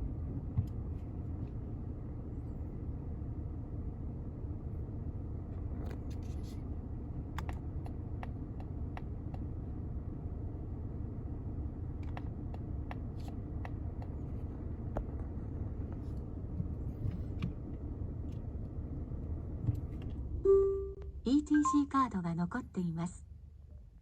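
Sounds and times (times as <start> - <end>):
car engine idling: 0.0 - 21.2.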